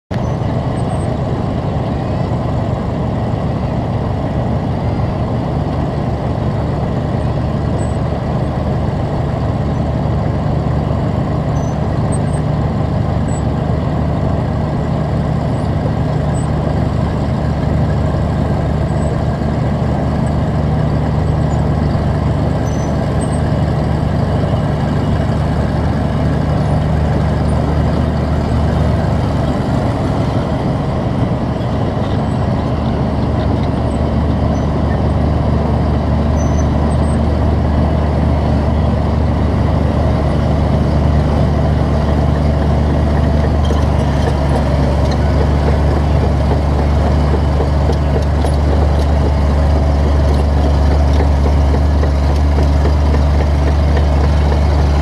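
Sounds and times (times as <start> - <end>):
diesel engine idling: 0.1 - 55.0.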